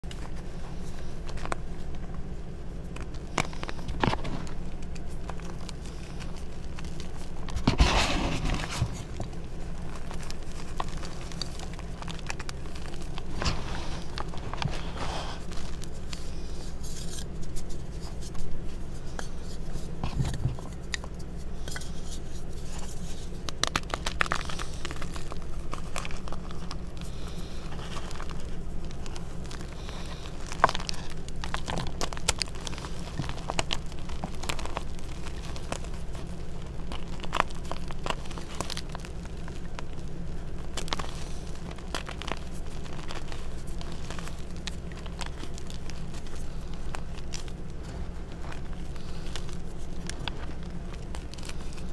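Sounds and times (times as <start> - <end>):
chalk crunching and crackling: 0.0 - 51.9.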